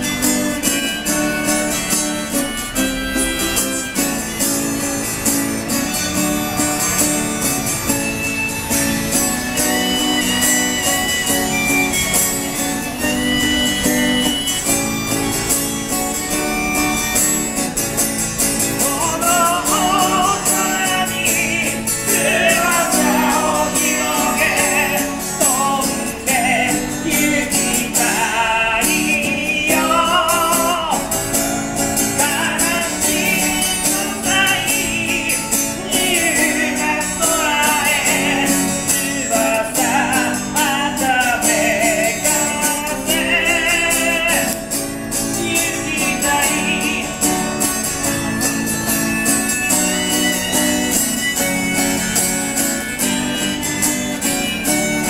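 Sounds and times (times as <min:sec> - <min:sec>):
harmonica melody: 0:00.0 - 0:55.0
strummed acoustic string instrument: 0:00.0 - 0:55.0.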